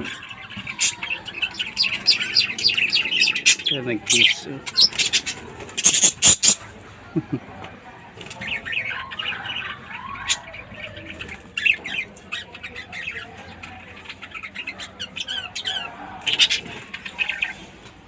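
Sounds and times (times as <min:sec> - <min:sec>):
lovebirds chirping and squawking: 0:00.0 - 0:18.0.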